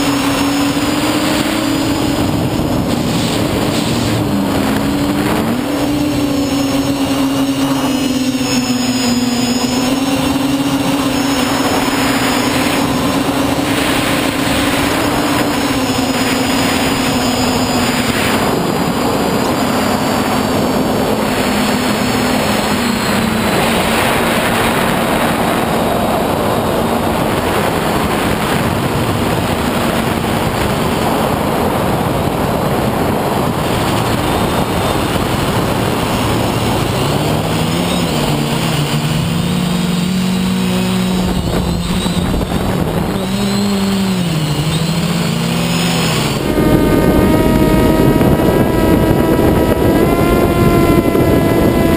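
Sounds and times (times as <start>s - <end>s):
quadcopter motors and propellers: 0.0s - 51.9s
wind rush over camera: 0.0s - 51.9s.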